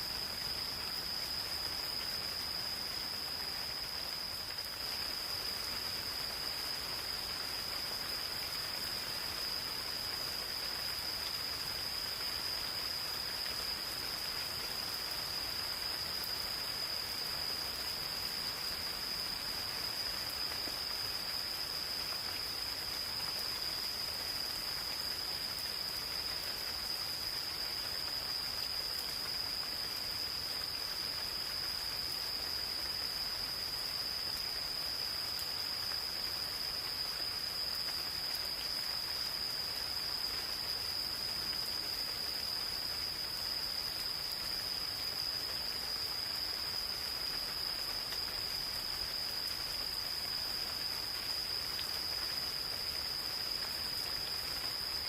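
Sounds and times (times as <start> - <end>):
gentle rain: 0.0 - 55.0.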